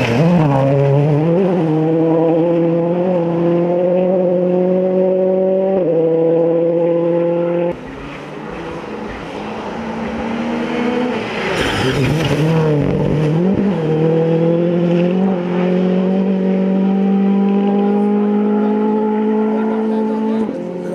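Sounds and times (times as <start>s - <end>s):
rally car engine revving: 0.0s - 20.9s.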